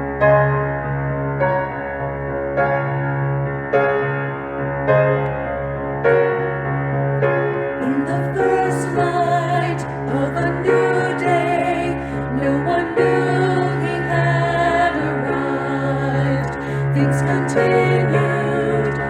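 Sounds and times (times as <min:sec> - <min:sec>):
piano accompaniment: 0:00.0 - 0:19.0.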